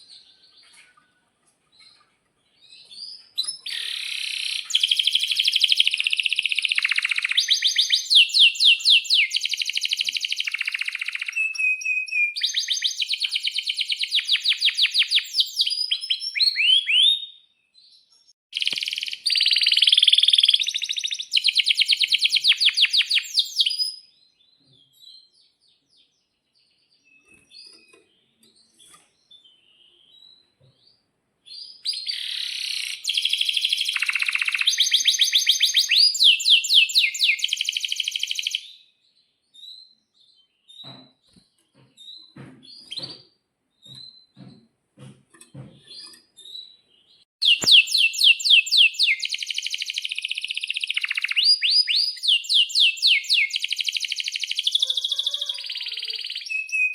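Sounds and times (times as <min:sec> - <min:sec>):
canary singing trills: 0:01.8 - 0:44.4, 0:45.4 - 0:56.9.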